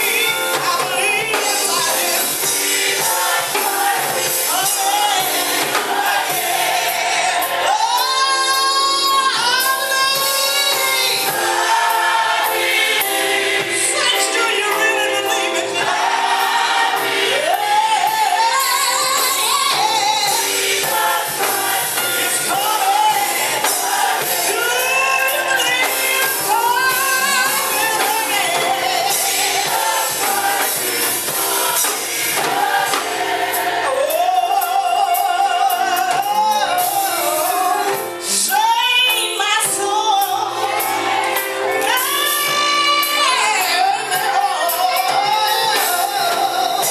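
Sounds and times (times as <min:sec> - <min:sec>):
band playing: 0:00.0 - 0:46.9
gospel choir singing: 0:00.0 - 0:46.9
woman singing lead: 0:00.0 - 0:46.9.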